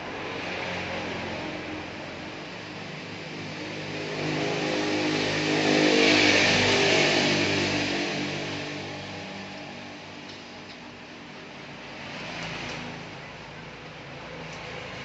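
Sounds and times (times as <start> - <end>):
vehicle passing by: 0.0 - 10.2, 11.7 - 15.0.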